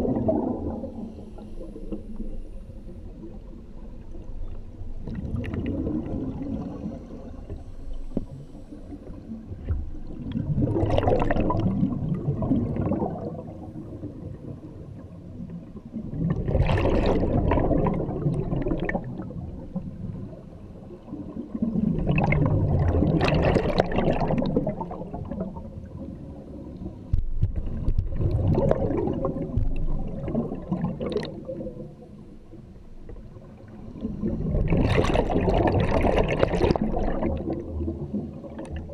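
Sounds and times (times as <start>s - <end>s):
underwater regulator bubbles: 0.0s - 38.9s.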